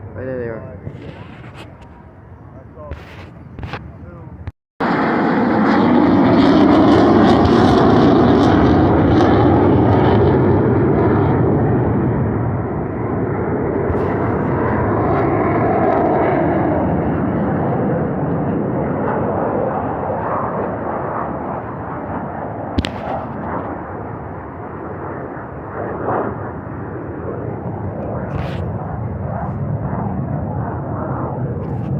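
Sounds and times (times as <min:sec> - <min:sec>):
jet aircraft roaring overhead: 0:00.0 - 0:31.9.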